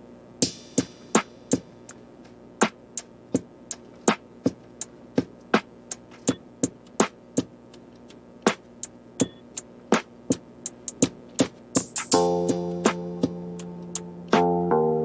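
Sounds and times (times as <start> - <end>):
clicky percussion beat: 0.4 - 14.6.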